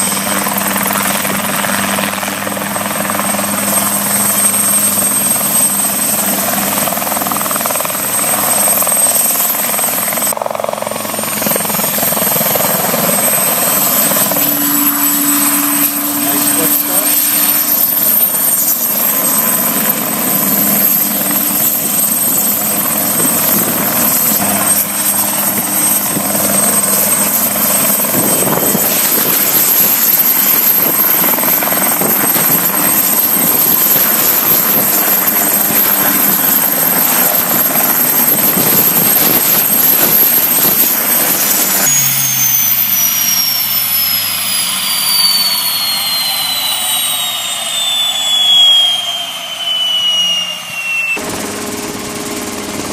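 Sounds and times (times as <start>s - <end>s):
helicopter engine and rotor: 0.0s - 52.9s
high whine falling in pitch: 2.9s - 52.9s.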